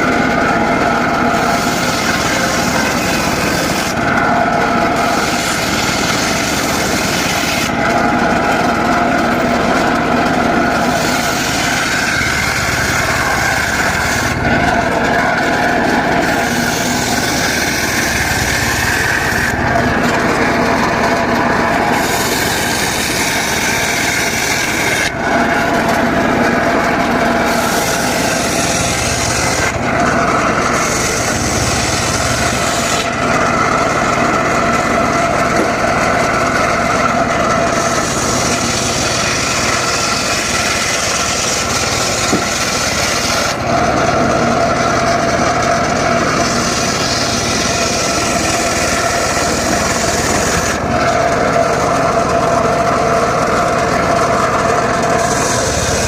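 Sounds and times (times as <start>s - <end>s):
circular saw blade cutting wood: 0.0s - 56.0s
engine running steadily: 0.0s - 56.0s.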